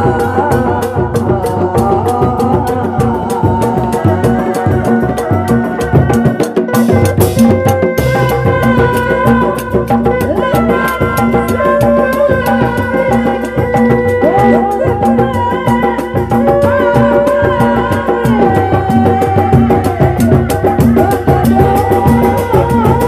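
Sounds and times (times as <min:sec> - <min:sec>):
drums in fast driving rhythm: 0:00.0 - 0:23.0.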